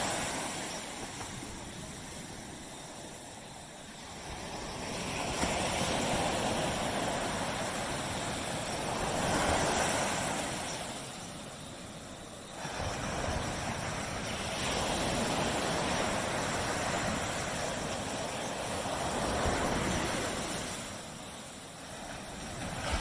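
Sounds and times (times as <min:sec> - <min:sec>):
waves breaking on beach: 0:00.0 - 0:23.0.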